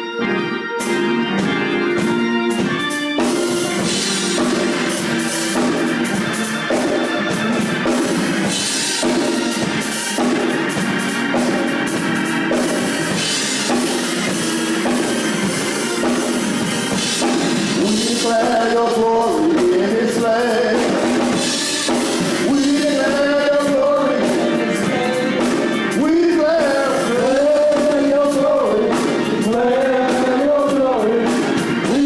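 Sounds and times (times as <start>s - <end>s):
sustained organ chords: 0.0s - 32.0s
drums and cymbals: 0.8s - 32.0s.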